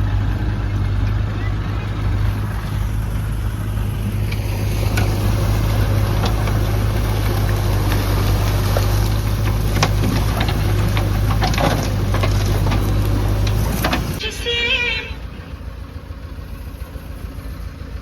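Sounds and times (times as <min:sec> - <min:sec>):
heavy machine engine running: 0:00.0 - 0:18.0.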